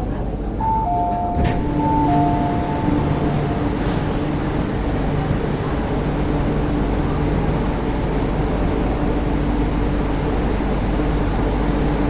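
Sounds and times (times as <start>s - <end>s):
train cabin hum: 0.0s - 12.0s.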